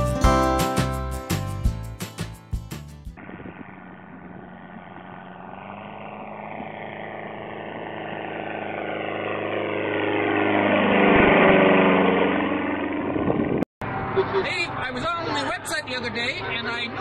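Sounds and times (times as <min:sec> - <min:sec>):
light aircraft flying over: 0:03.2 - 0:17.0.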